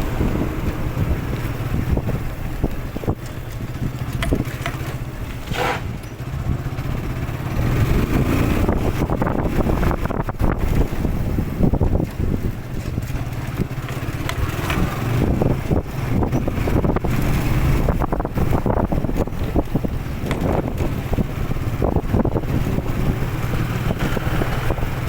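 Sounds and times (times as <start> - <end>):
motorcycle engine rumble: 0.0 - 25.0
wind buffeting microphone: 0.0 - 25.0.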